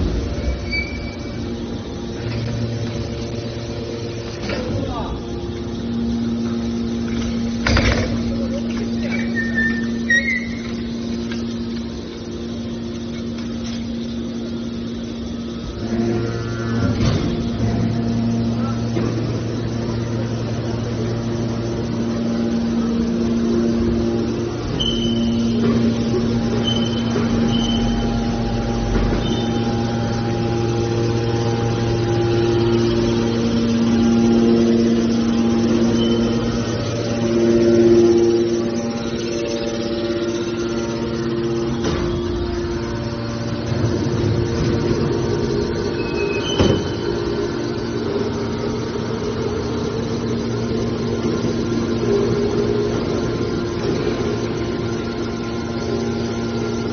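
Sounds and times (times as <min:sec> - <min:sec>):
baler machine humming: 0:00.0 - 0:56.9
deeper hum: 0:00.0 - 0:56.9.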